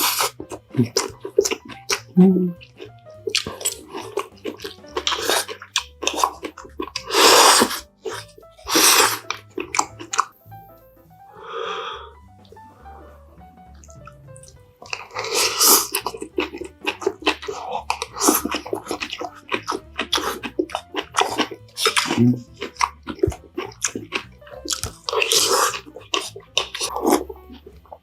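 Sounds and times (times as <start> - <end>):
mouth clicks and smacks: 0.0 - 10.4, 13.8 - 28.0
wet slurping: 0.0 - 10.4, 13.8 - 28.0
crunchy wet chewing: 0.0 - 10.5, 13.7 - 28.0.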